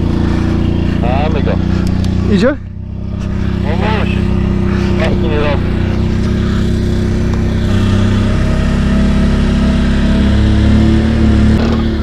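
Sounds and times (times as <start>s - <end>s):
quad engines running: 0.0s - 12.0s.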